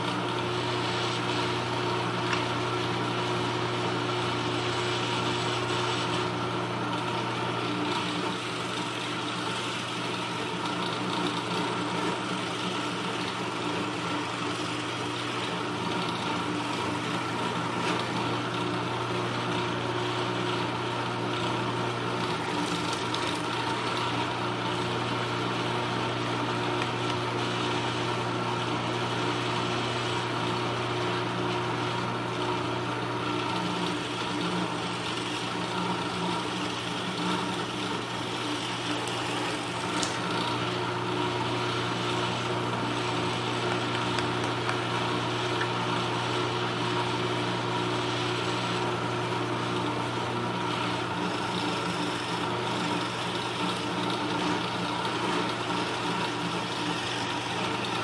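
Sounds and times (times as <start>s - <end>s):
drill bit boring into wood: 0.0s - 58.0s
drill press motor hum: 0.0s - 58.0s.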